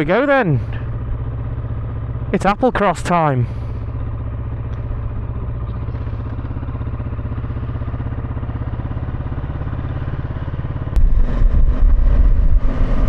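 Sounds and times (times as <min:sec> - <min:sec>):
motorcycle engine running: 0:00.0 - 0:13.0
rough low engine rumble: 0:00.0 - 0:13.0.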